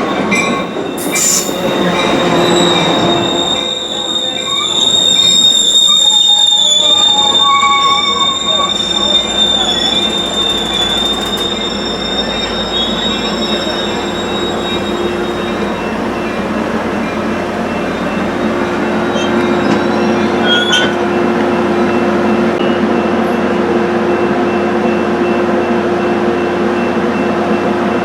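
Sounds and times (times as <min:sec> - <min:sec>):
high-pitched wheel squeal: 0:00.0 - 0:22.6
train rolling on rails: 0:00.0 - 0:28.0.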